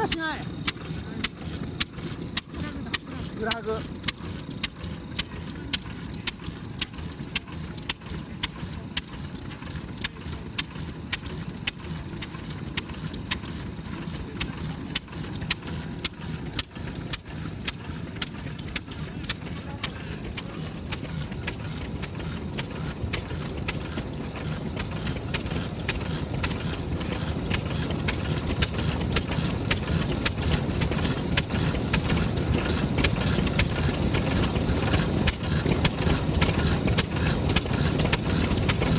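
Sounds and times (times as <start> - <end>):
stationary engine exhaust beats: 0.0 - 38.9.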